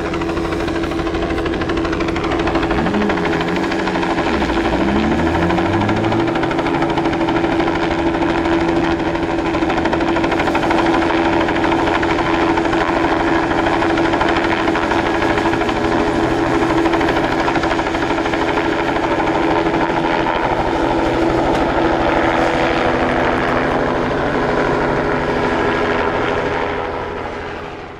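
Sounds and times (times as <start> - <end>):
helicopter rotor blades beating: 0.0 - 27.9
helicopter turbine whine: 0.0 - 27.9.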